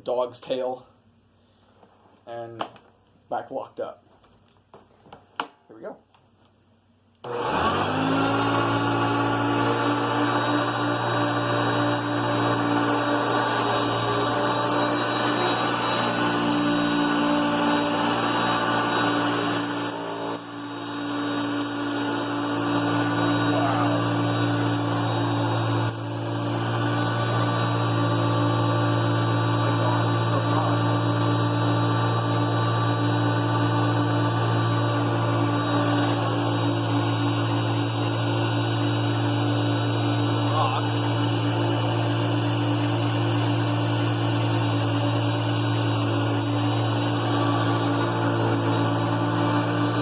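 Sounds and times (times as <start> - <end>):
vacuum cleaner running: 7.2 - 50.0.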